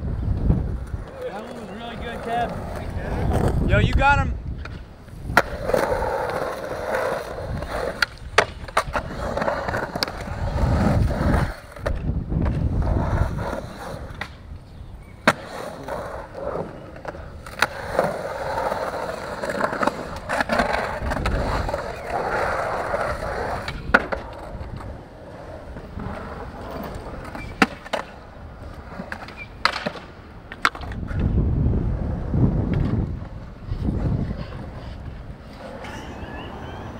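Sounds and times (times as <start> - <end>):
skateboard wheels rolling on concrete: 0.0 - 36.9
skateboard clacking on concrete: 0.3 - 31.3.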